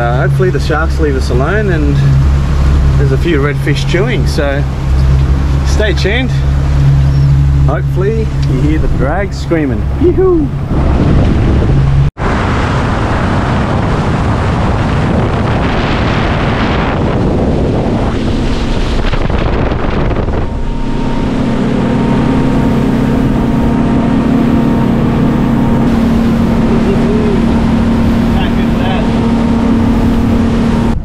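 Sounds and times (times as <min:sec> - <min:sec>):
outboard motor drone: 0:00.0 - 0:31.0
water rushing past hull: 0:00.0 - 0:31.0
wind buffeting microphone: 0:00.0 - 0:31.0.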